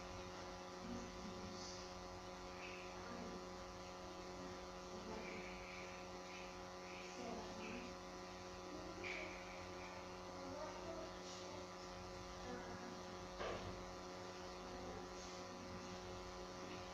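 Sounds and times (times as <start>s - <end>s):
low electrical hum: 0.0s - 16.9s.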